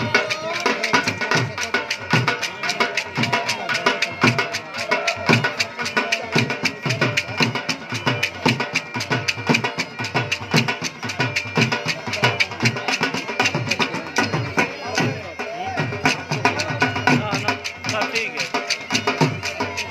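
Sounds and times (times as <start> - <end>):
drums beaten in fast rhythm: 0.0 - 19.9.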